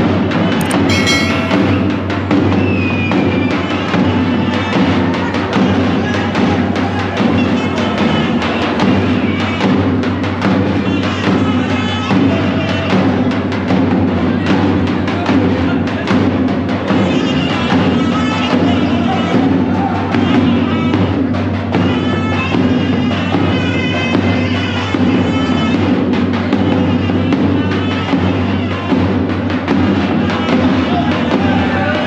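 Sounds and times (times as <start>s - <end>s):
loud music with drum beat: 0.0s - 32.0s.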